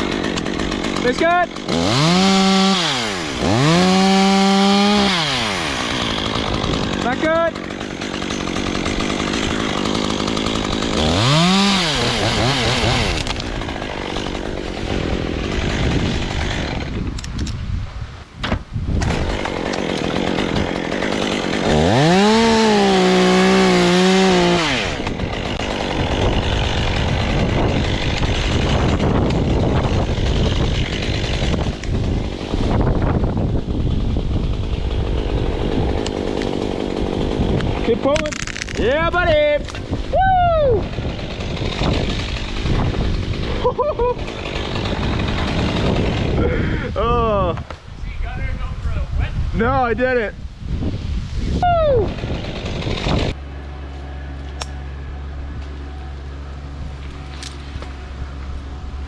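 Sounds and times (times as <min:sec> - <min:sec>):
chainsaw revving: 0:00.0 - 0:17.2, 0:19.0 - 0:47.2, 0:52.0 - 0:59.0.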